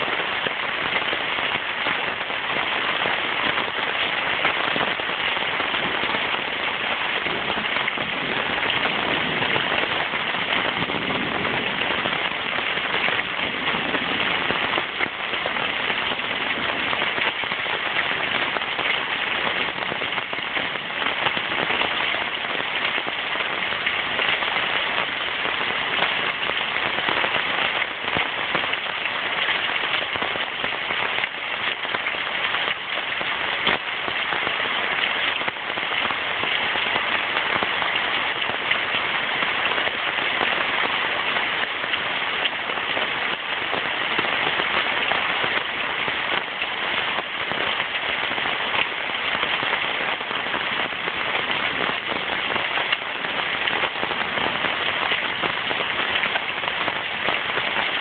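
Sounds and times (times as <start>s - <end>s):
heavy rain pouring: 0.0s - 58.0s
sharp rain taps: 0.0s - 58.0s.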